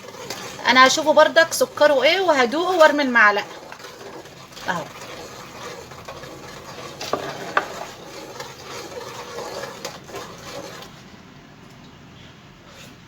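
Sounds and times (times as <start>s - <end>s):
spoon scraping a pot: 0.0s - 11.1s.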